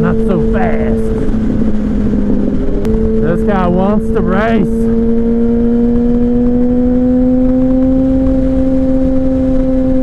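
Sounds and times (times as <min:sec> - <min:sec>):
motorcycle engine running: 0:00.0 - 0:10.0
wind and road rumble: 0:00.0 - 0:10.0.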